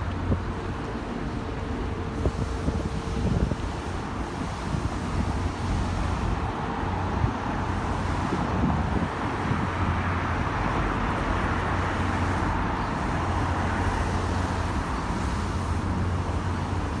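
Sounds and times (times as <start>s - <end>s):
road traffic hum: 0.1s - 17.0s.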